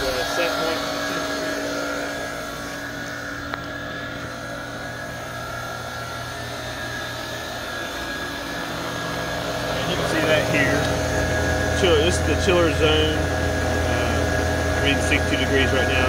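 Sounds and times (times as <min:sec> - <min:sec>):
compressor and pump humming: 0:00.0 - 0:16.0.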